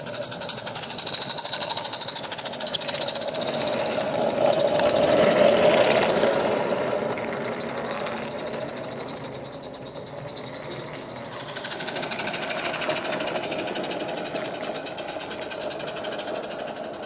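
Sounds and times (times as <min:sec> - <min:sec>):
steam locomotive chuffing: 0:00.0 - 0:17.0
wagon wheels clattering on track: 0:00.0 - 0:17.0.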